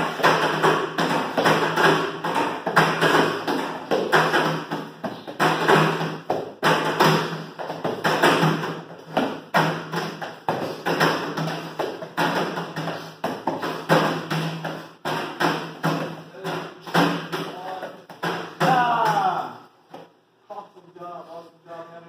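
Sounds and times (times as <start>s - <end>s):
hands slapping on mats and chair: 0.0s - 20.2s.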